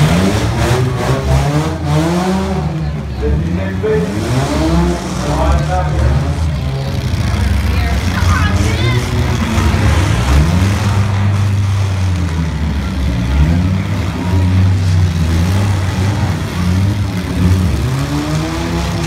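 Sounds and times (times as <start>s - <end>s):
stock car engines revving hard: 0.0s - 19.0s.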